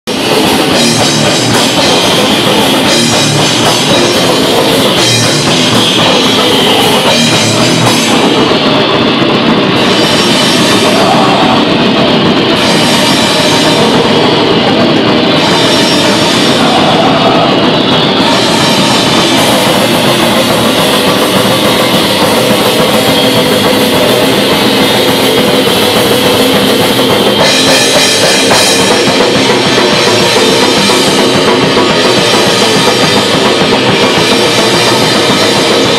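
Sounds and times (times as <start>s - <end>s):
distorted electric guitar: 0.0s - 35.9s
drum kit with cymbals: 0.0s - 35.9s.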